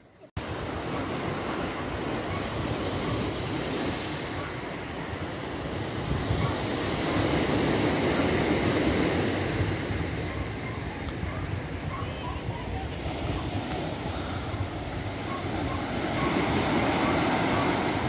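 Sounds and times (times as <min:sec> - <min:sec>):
wind buffeting microphone: 0:00.4 - 0:18.0.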